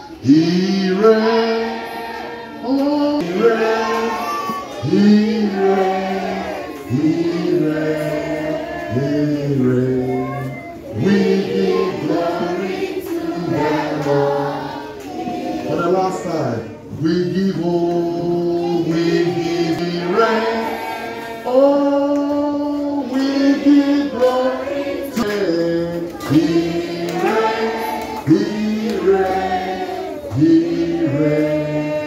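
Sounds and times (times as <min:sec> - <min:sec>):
group singing a worship song: 0:00.0 - 0:32.0.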